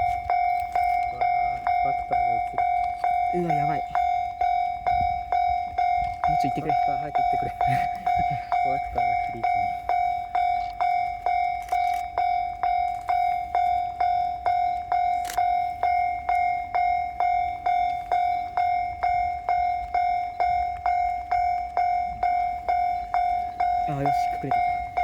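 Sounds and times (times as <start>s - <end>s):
level crossing warning bell ringing: 0.0s - 25.0s.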